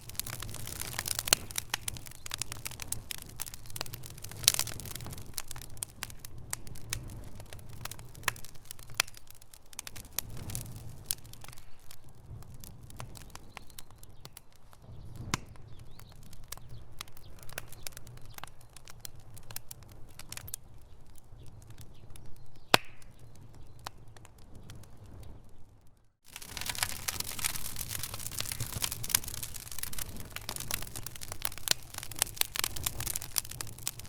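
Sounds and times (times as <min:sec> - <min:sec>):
sharp pops and snaps: 0:00.0 - 0:12.0, 0:12.9 - 0:20.6, 0:21.7 - 0:24.8, 0:26.2 - 0:34.0
low rumble of flames: 0:00.0 - 0:34.0
wood fire crackling: 0:00.0 - 0:34.0.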